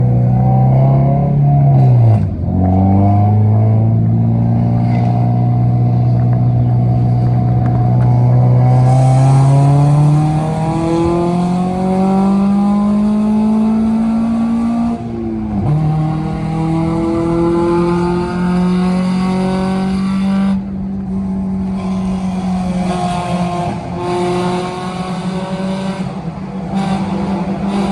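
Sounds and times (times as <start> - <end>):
car engine accelerating hard: 0.0 - 27.9.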